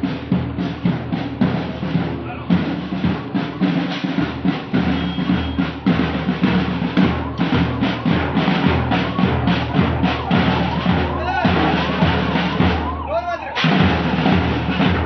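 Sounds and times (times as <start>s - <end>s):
marching drum beat: 0.0s - 15.0s.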